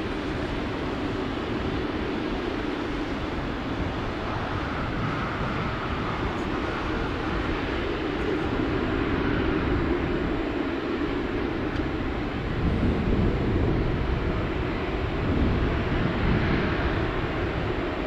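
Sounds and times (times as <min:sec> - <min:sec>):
jet engines roaring at takeoff: 0:00.0 - 0:18.0.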